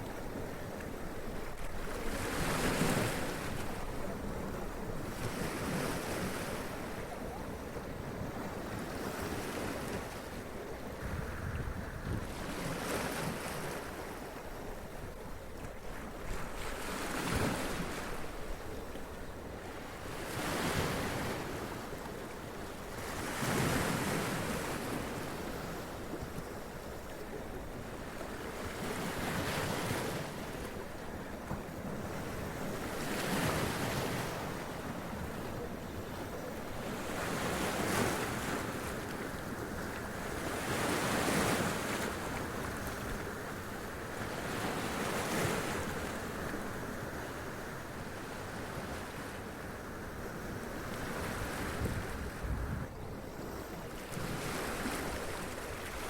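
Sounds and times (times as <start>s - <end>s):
background surf wash: 0.0s - 56.0s.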